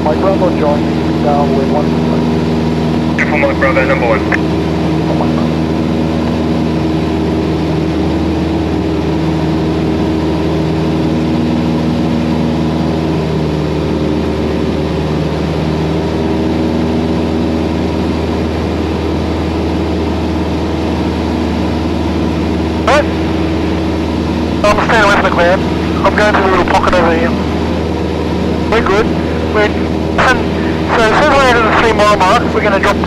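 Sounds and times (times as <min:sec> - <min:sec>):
airplane engine and propeller droning: 0:00.0 - 0:33.0.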